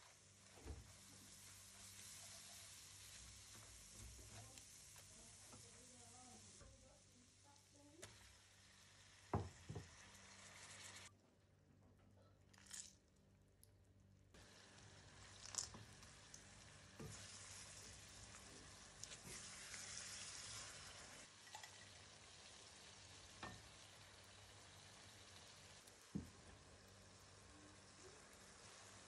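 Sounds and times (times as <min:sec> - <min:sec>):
food sizzling in a pan: 0:00.0 - 0:11.1, 0:14.4 - 0:29.0.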